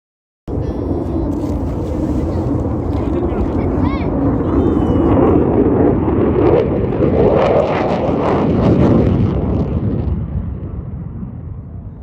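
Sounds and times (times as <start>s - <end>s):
fighter jet roar with crackle: 0.5s - 12.0s.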